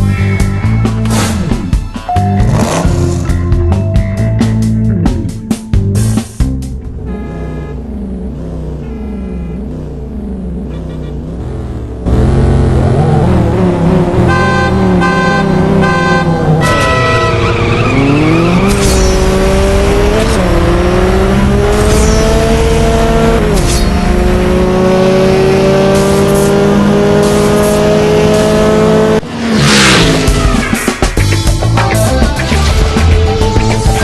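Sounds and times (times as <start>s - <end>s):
car engine accelerating: 6.0s - 34.0s.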